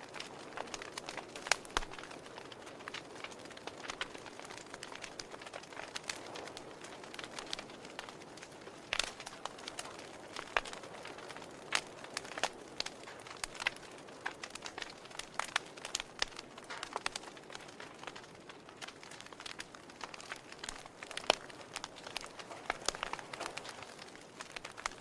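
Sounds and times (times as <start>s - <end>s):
soft steady hiss: 0.0s - 25.0s
wood fire crackling: 0.0s - 25.0s.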